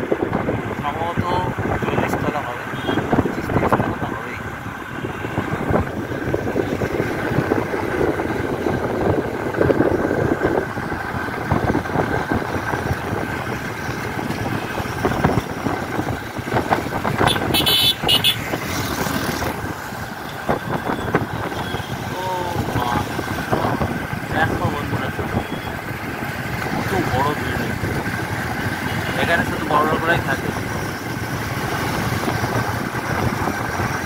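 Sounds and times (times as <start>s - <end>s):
car interior road noise: 0.0s - 34.0s
vehicles passing: 0.0s - 34.0s.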